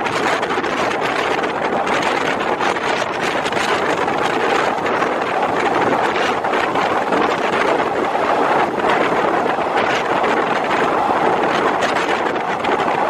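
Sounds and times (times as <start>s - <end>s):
moving train running noise: 0.0s - 13.0s
wind buffeting microphone: 0.0s - 13.0s.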